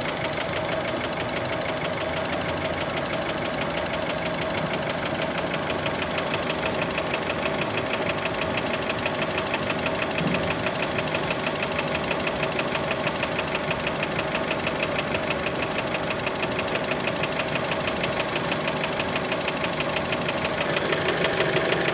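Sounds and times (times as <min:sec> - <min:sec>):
car engine idling with knock: 0:00.1 - 0:21.9.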